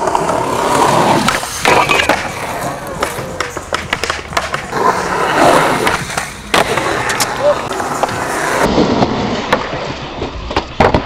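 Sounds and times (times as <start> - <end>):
skateboard clacks: 0.0 - 11.0
skateboard rolling on concrete: 0.0 - 11.0.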